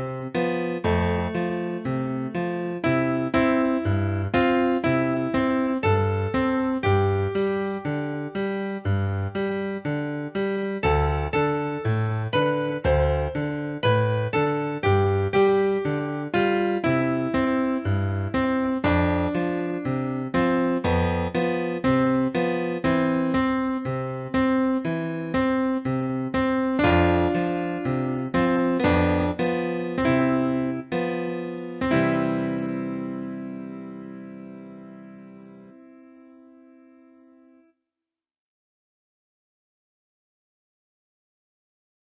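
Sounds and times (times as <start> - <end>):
piano music: 0.0 - 37.6.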